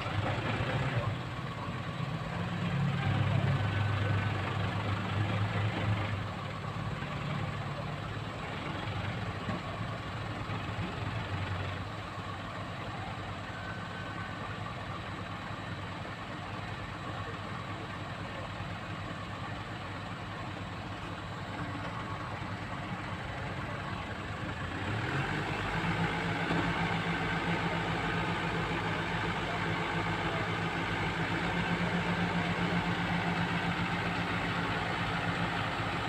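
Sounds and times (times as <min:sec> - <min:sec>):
diesel engine running and revving: 0:00.0 - 0:36.0.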